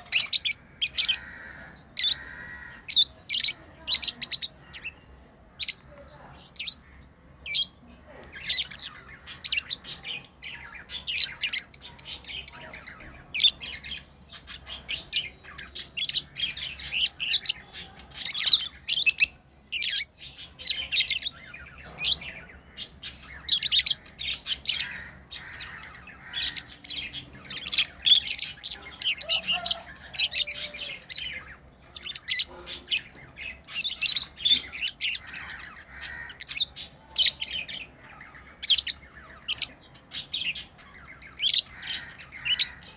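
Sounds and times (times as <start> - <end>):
lovebirds chirping: 0.0 - 42.9.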